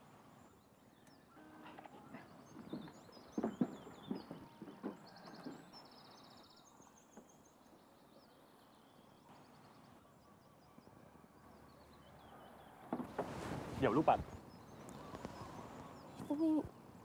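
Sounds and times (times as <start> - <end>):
bird chirps: 0.3 - 16.7.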